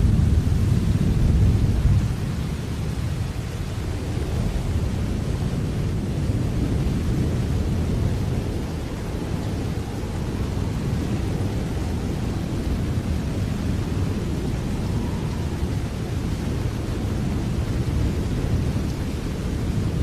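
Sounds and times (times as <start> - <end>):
distant thunder rumble: 0.0 - 20.0
steady rain: 0.0 - 20.0.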